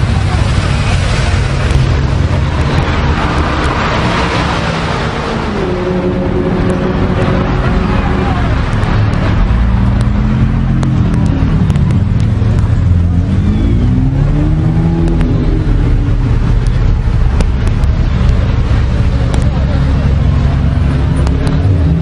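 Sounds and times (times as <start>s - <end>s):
sports car engines revving: 0.0s - 22.0s.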